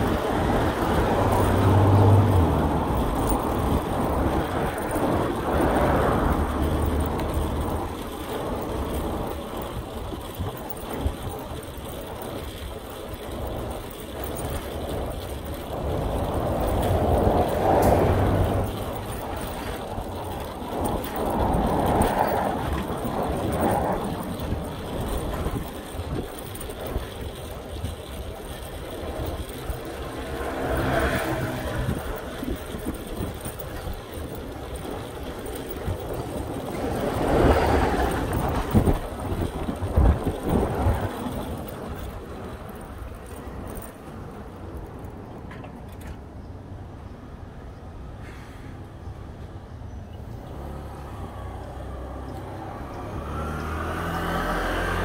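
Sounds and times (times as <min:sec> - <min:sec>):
road traffic rumble: 0:00.0 - 0:55.0
vehicles passing: 0:00.0 - 0:55.0.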